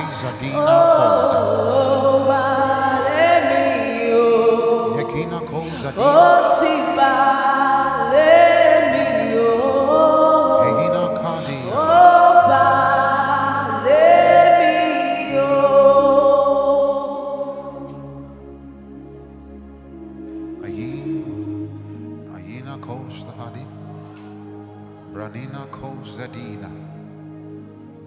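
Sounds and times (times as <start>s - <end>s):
sustained low accompaniment: 0.0s - 28.0s.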